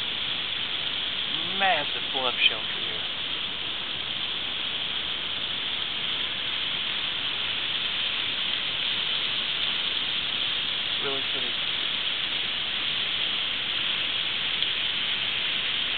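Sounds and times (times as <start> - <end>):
waterfall splashing onto rocks: 0.0 - 15.9.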